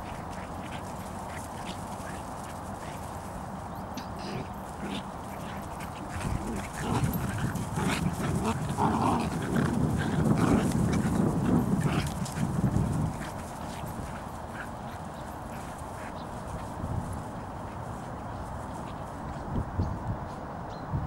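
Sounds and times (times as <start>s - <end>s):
dogs growling: 0.0s - 17.7s.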